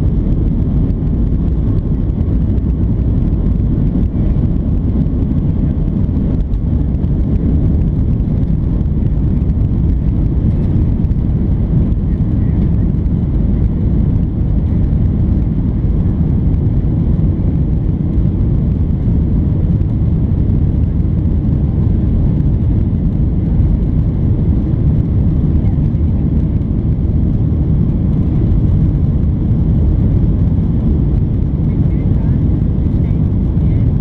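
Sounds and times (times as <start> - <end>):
jet engines roaring in cabin: 0.0 - 34.0.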